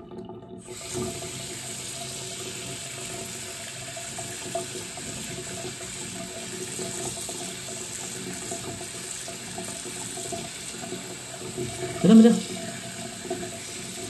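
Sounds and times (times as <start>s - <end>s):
faucet running and splashing: 0.6s - 14.0s.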